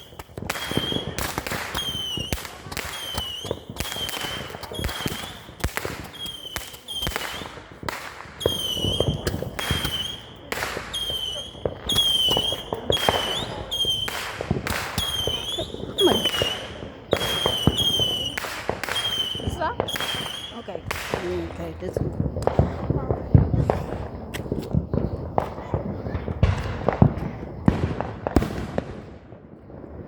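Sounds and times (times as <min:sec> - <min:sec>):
firework whistling: 0:00.0 - 0:29.0
fireworks banging and crackling: 0:00.0 - 0:30.0.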